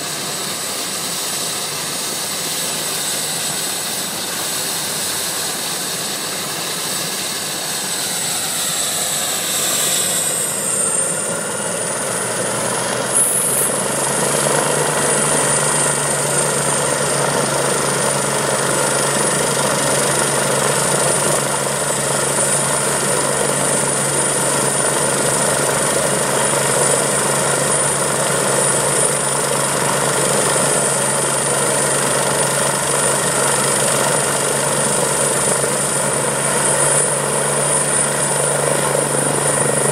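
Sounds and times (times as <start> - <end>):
helicopter rotor beat: 0.0 - 39.9
helicopter turbine whine: 0.0 - 39.9.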